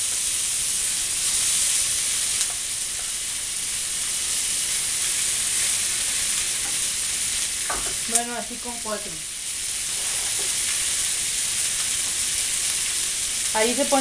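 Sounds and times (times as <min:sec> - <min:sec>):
chicken sizzling in hot fat: 0:00.0 - 0:14.0.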